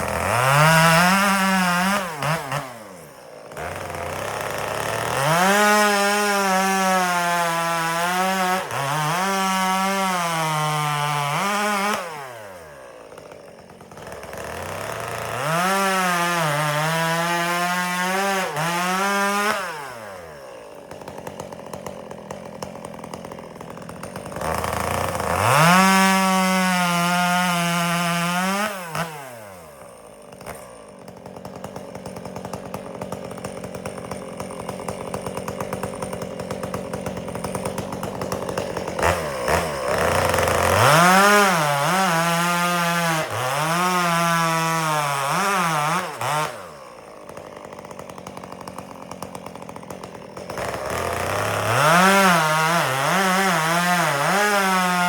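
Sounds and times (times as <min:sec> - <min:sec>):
chainsaw cutting firewood: 0:00.0 - 0:55.0.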